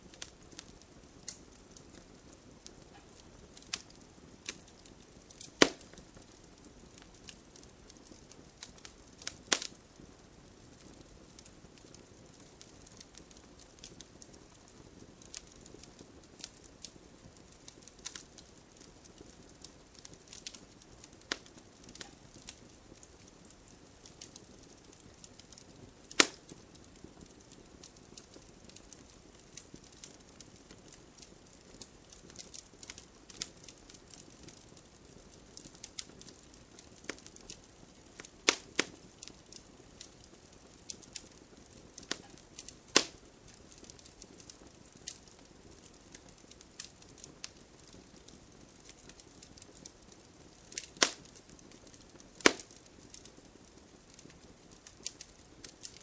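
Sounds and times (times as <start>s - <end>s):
bonfire crackling and popping: 0.0s - 56.0s
faint rain hiss: 0.0s - 56.0s.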